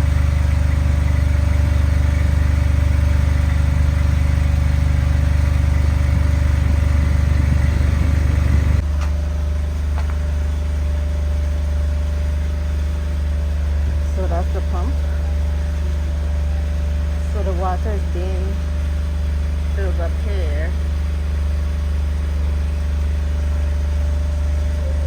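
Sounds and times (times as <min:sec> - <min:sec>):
electric water pump humming: 0:00.0 - 0:25.0.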